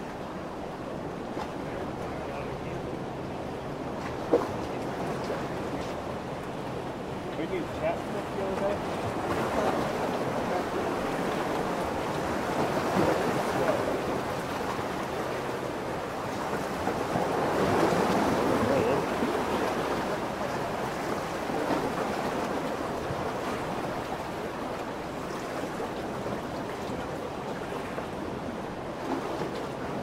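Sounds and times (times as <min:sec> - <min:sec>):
waves washing in: 0:00.0 - 0:30.0.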